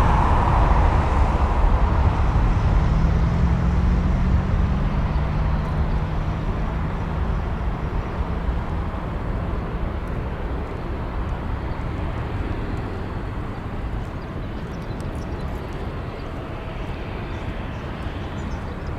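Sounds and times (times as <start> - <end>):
jet airliner taking off: 0.0 - 18.9.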